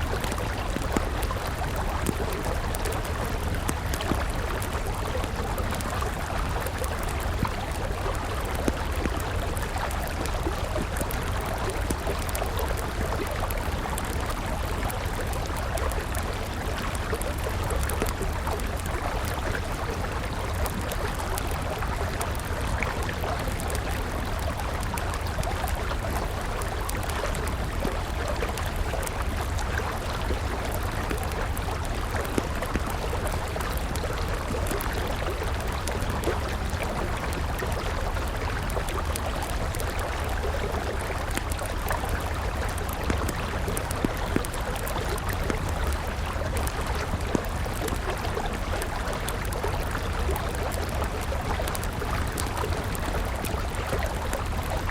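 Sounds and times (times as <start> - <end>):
campfire wood crackling: 0.0 - 54.9.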